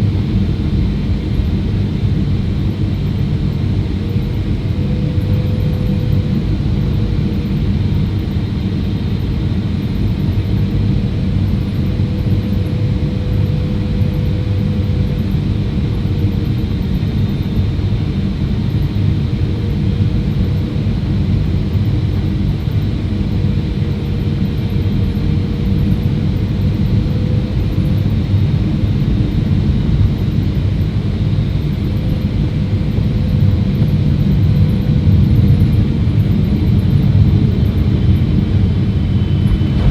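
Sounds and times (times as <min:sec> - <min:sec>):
airliner rumble with humming: 0:00.0 - 0:39.9.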